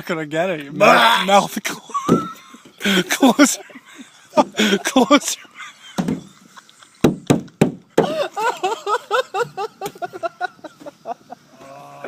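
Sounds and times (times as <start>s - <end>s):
person laughing in rapid bursts: 1.8s - 11.6s.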